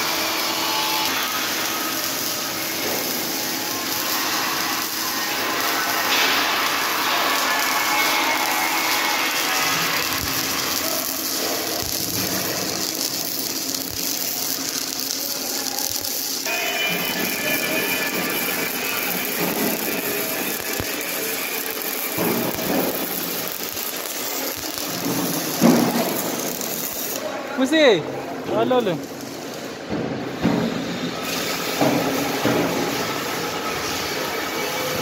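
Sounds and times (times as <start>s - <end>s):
welding arc crackling hiss: 0.0s - 35.0s.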